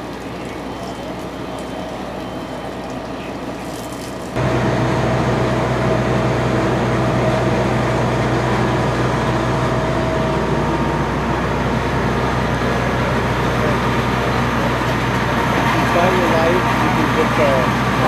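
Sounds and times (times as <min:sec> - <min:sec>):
diesel pump engine droning: 0:00.0 - 0:18.0.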